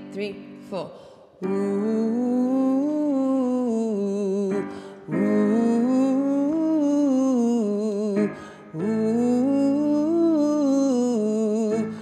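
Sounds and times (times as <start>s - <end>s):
electronic keyboard accompaniment: 1.4s - 12.0s.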